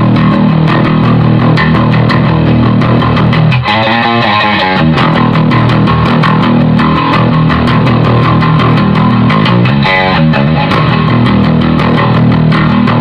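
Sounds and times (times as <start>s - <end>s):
overdriven electric bass guitar: 0.0s - 13.0s.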